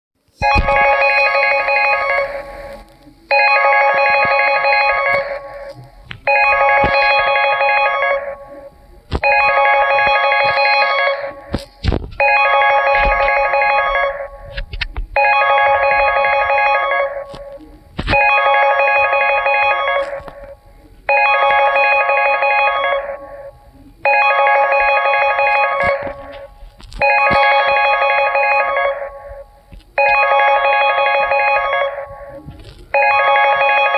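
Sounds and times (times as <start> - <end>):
trilling phone ringtone: 0.4 - 33.9.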